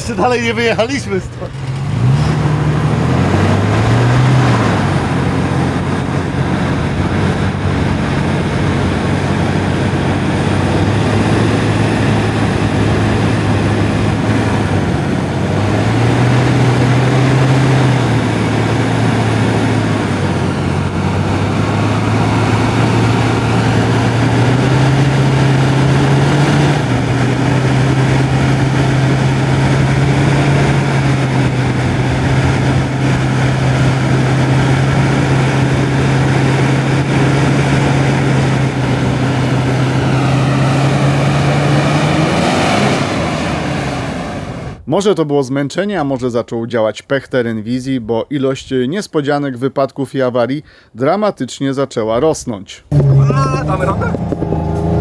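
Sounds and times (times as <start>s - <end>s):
off-road engine revving: 0.0s - 44.9s, 52.9s - 55.0s.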